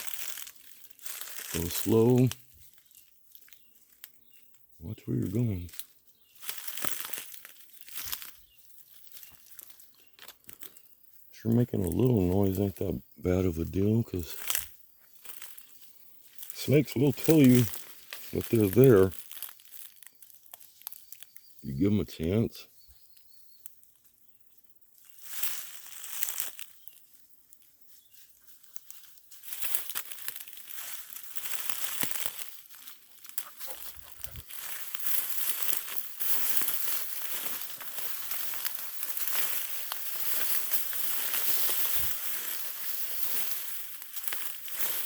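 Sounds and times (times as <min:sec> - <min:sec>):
footsteps crunching dry leaves: 0:00.0 - 0:22.2, 0:22.9 - 0:45.0.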